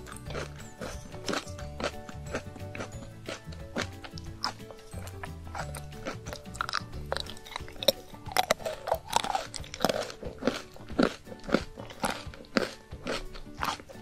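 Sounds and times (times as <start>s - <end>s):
crunching cookie being chewed: 0.0s - 14.0s
soft background music: 0.0s - 14.0s.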